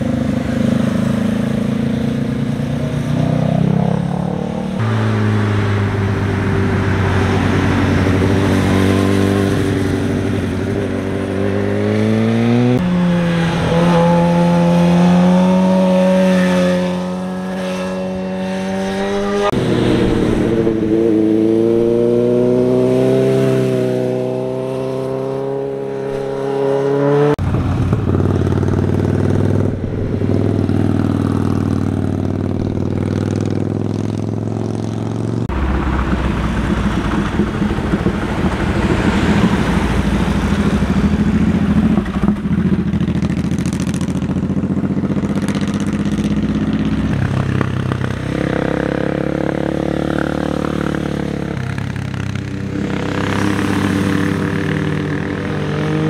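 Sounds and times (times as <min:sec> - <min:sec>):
motorcycle engines accelerating: 0:00.0 - 0:56.0.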